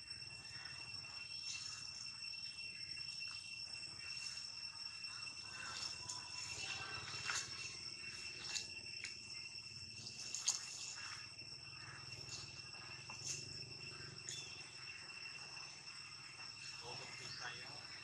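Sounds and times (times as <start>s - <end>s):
high drone of insects: 0.0s - 18.0s.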